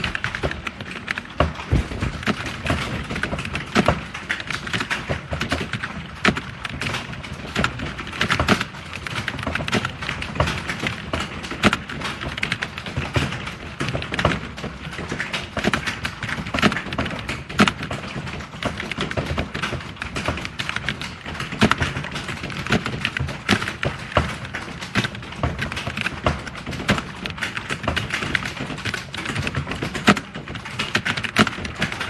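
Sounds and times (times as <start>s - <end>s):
fast typing on keyboard: 0.0s - 32.0s.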